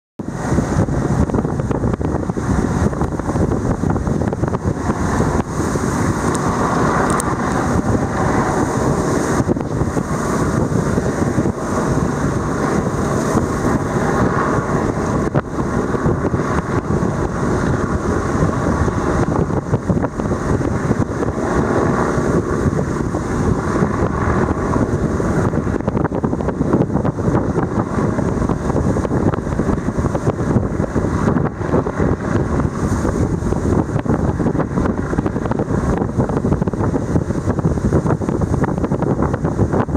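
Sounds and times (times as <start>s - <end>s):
wind buffeting microphone: 0.2s - 39.9s.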